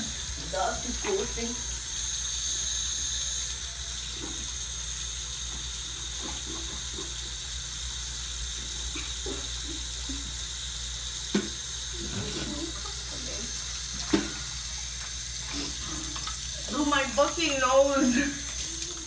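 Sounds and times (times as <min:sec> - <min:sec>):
faucet water splashing in sink: 0:00.0 - 0:19.0.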